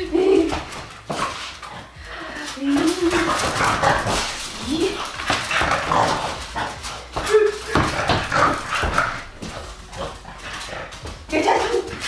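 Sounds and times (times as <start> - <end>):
scuffling knocks: 2.0 - 12.0.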